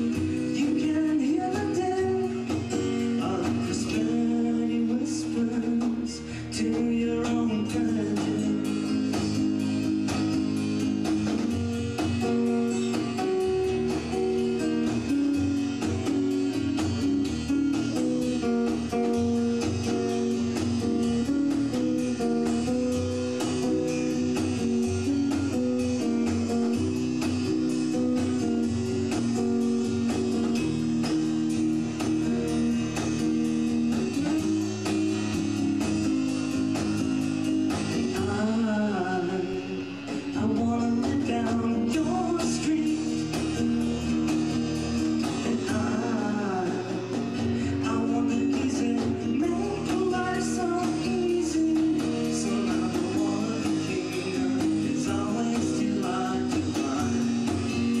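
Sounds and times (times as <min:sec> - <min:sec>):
person singing: 0:00.0 - 0:31.2, 0:31.8 - 0:58.0
guitar-led background music: 0:00.0 - 0:58.0.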